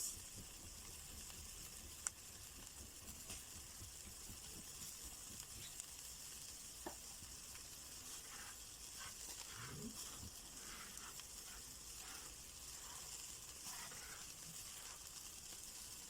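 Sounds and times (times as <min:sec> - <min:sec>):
food sizzling on a grill: 0:00.0 - 0:16.0
wood fire crackling: 0:00.0 - 0:16.0.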